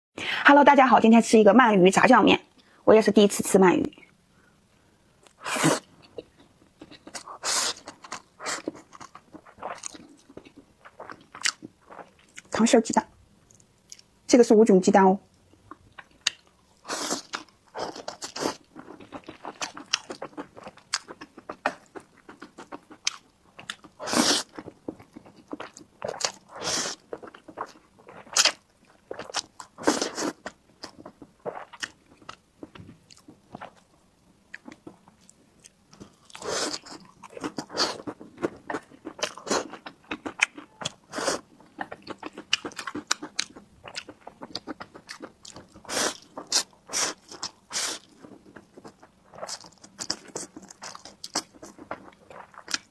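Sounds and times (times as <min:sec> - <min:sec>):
chewing and biting: 0:06.0 - 0:12.5, 0:15.7 - 0:33.9, 0:34.5 - 0:52.9.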